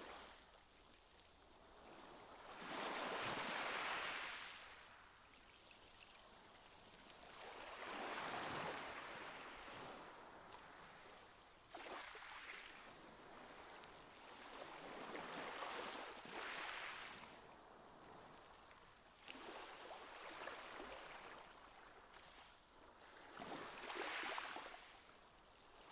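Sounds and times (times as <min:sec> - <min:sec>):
water lapping in a pool: 0:00.0 - 0:25.9.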